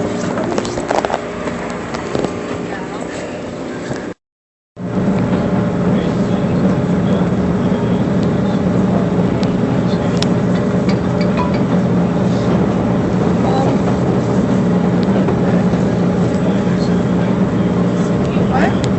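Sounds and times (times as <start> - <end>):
vehicle engine drone: 0.0 - 4.2, 4.8 - 18.9.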